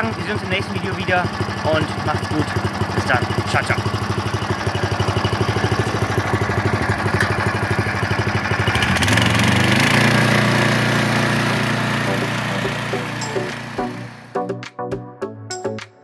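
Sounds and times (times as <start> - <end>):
petrol engine chugging: 0.0 - 14.3.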